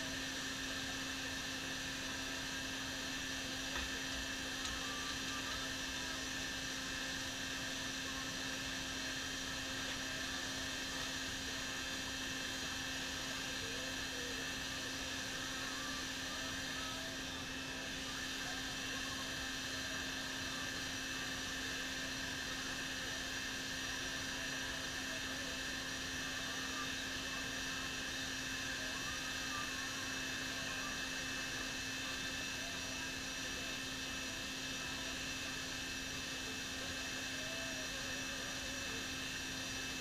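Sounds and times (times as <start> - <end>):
electric air blower whirring: 0.0 - 40.0.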